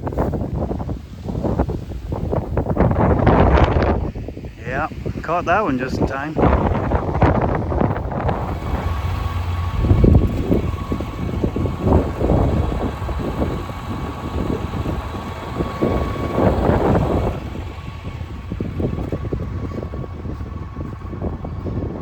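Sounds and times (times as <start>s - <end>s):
wind buffeting microphone: 0.0s - 22.0s
thin steady whine: 2.8s - 22.0s.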